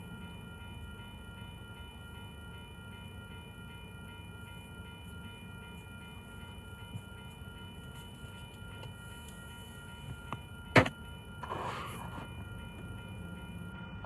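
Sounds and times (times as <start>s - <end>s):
crossing warning bell ringing: 0.0s - 14.0s
freight train rumbling: 0.0s - 14.0s.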